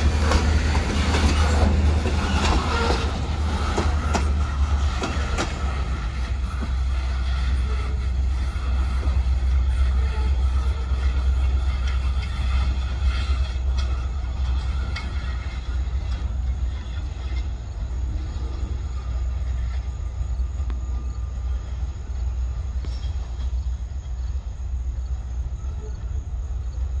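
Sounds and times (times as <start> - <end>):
freight train rumbling on track: 0.0 - 27.0
sharp clicks of train wheels: 0.0 - 27.0.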